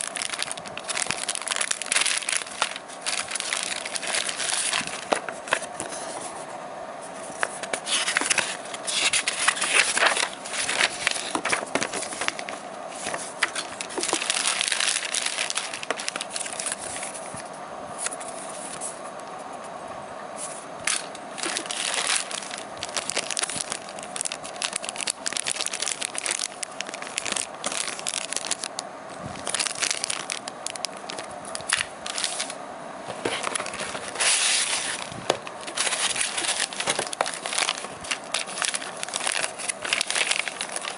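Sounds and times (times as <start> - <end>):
paper and plastic packaging rustling: 0.0 - 19.0, 20.4 - 40.9
faint steady hum: 0.0 - 40.9.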